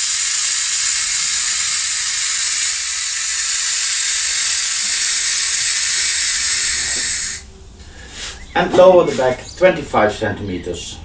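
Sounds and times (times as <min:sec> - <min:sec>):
compressed air hissing: 0:00.0 - 0:09.4.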